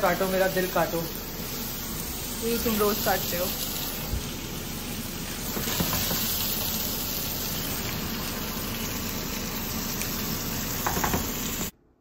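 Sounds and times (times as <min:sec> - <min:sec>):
chicken sizzling in a pan: 0:00.0 - 0:11.7.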